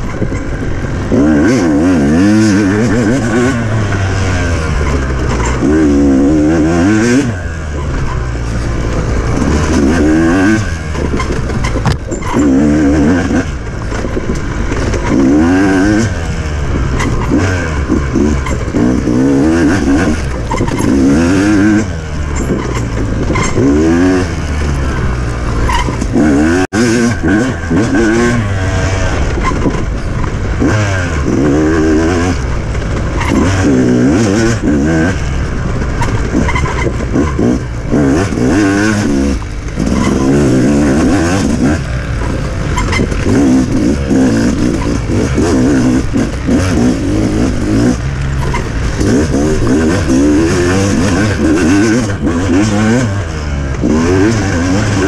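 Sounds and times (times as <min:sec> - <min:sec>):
off-road engine revving: 0:00.0 - 0:55.0.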